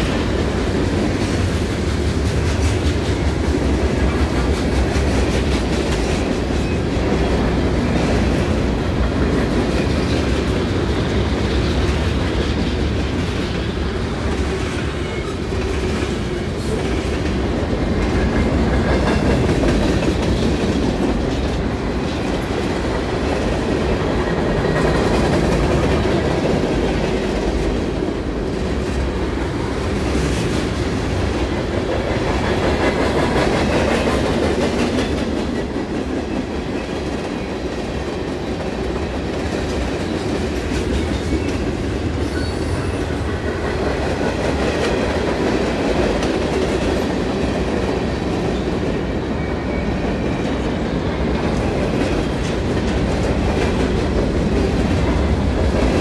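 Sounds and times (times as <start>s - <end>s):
freight train rolling past: 0.0s - 56.0s
steel wheels clattering on rails: 0.0s - 56.0s.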